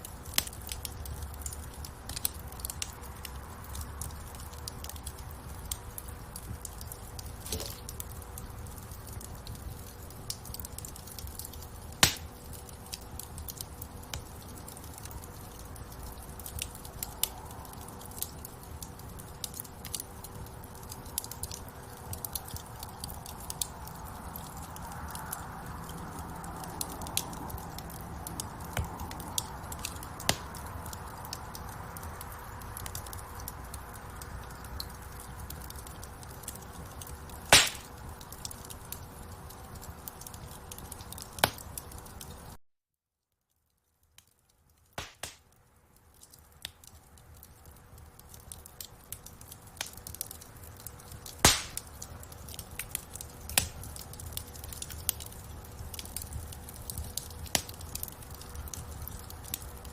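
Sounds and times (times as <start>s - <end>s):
fire flames rumbling: 0.0s - 42.6s, 44.7s - 59.9s
logs crackling and popping: 0.0s - 42.6s, 43.7s - 59.9s.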